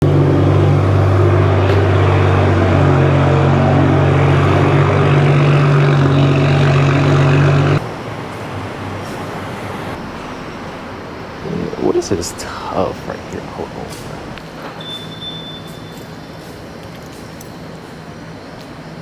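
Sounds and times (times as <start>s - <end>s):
turbocharged engine and loud exhaust: 0.0s - 19.0s.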